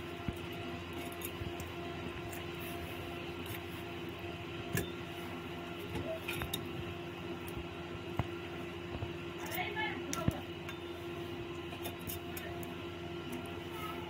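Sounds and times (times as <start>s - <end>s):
faint constant hum: 0.0s - 14.0s.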